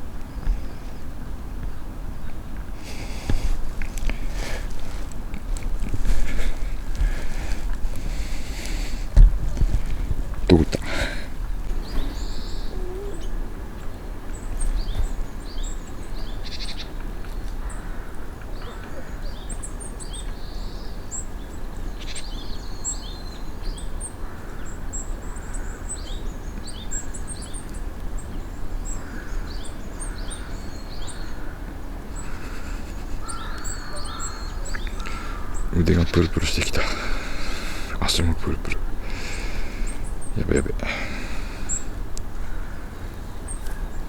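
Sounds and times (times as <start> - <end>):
small songbirds chirping: 0.0 - 44.0.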